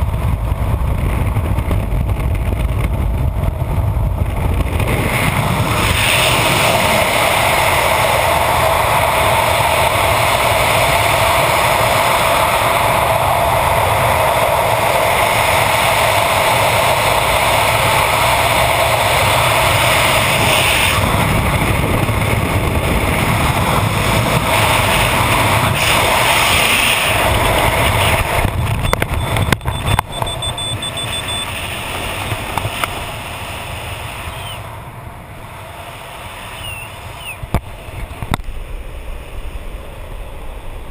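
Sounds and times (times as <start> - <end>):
freefall wind rushing: 0.0 - 40.9.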